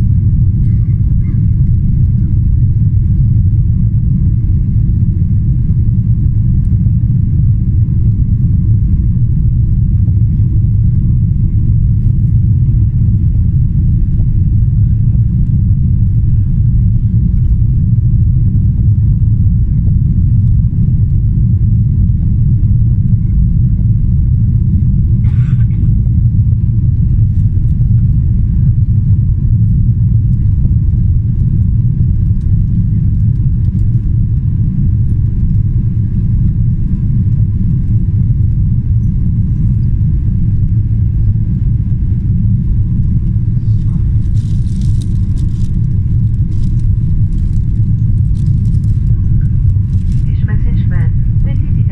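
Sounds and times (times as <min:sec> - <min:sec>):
airplane cabin low rumble: 0:00.0 - 0:51.9
faint steady whine: 0:00.0 - 0:51.9.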